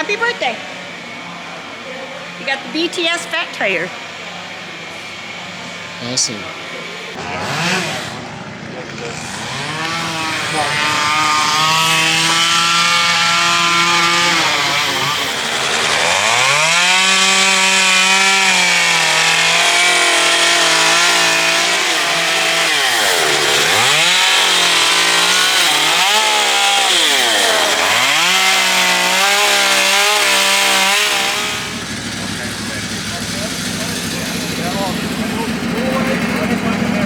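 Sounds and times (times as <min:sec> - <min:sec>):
small engine revving: 0:00.0 - 0:37.0.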